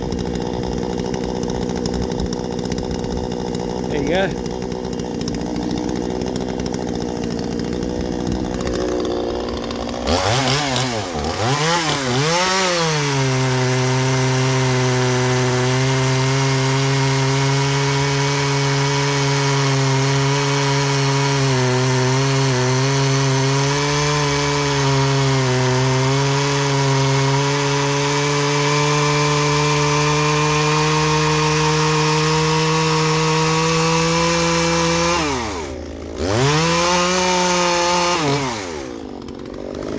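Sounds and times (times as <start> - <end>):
chainsaw cutting hardwood: 0.0 - 39.9.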